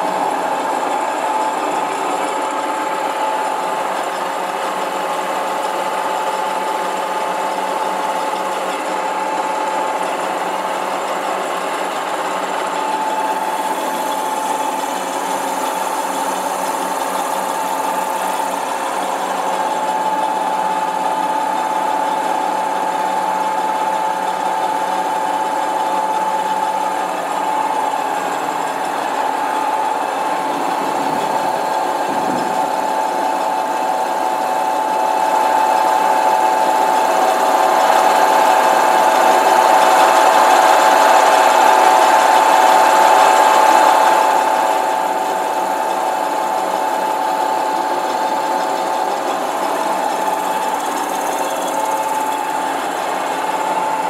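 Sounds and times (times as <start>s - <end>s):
lathe whining while turning wood: 0.0s - 54.0s.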